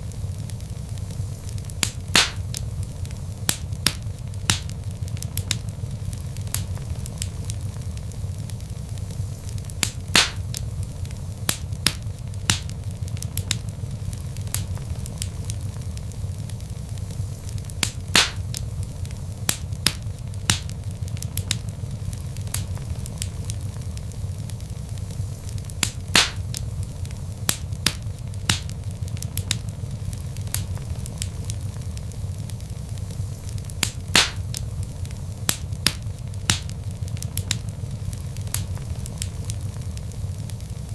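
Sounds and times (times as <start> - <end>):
log fire crackling: 0.0 - 40.9.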